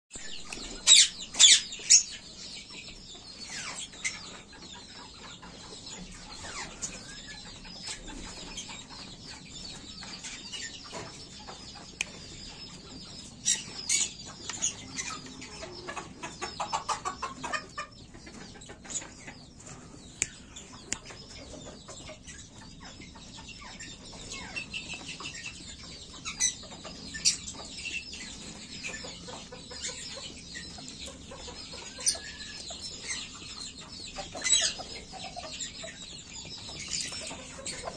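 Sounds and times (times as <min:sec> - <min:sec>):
chickens clucking and calling: 0:00.1 - 0:37.9.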